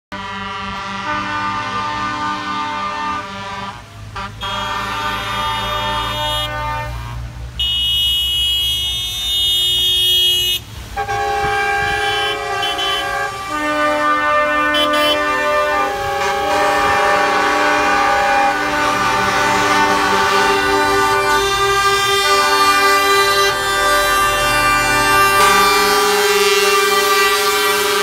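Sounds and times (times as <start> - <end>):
diesel engine rumble: 0.1 - 28.0
shrill horn: 0.1 - 28.0
truck air horns blasting: 0.1 - 28.0.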